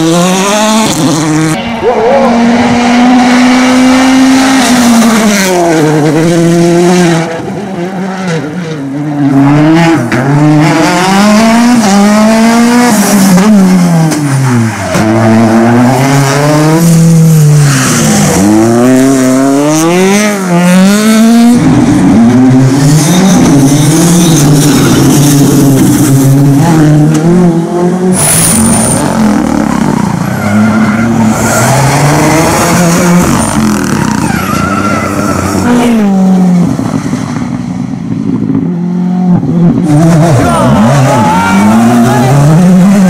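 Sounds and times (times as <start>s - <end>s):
rally car engines revving: 0.0s - 43.0s.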